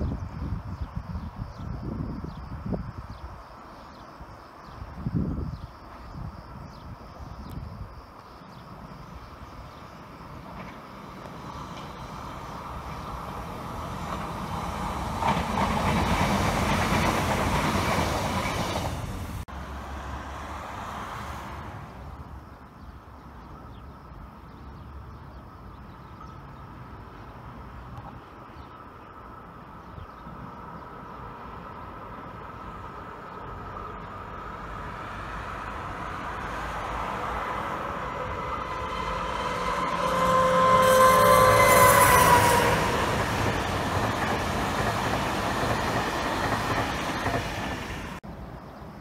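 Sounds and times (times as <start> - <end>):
train approaching with whine and rumble: 0.0 - 49.0
electric train passing: 8.6 - 49.0.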